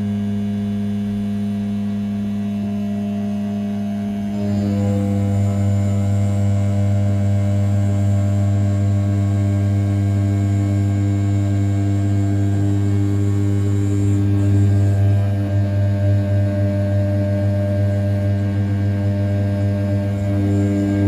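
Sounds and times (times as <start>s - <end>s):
router spindle humming: 4.0s - 21.0s.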